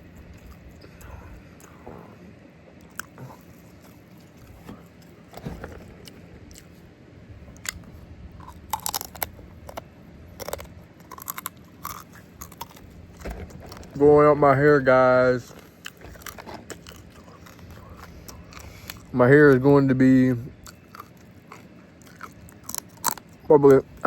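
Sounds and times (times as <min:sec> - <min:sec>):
crunching and chewing food: 0:00.0 - 0:24.0.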